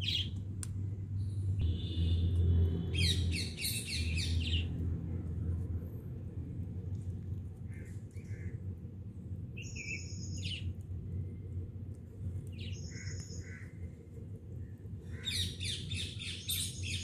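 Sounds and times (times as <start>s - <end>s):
low rumble: 0.0s - 16.3s.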